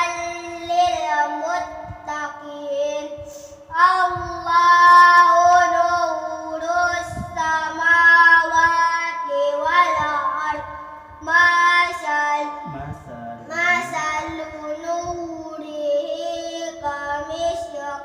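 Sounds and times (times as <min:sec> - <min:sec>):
child chanting melodically: 0:00.0 - 0:18.0.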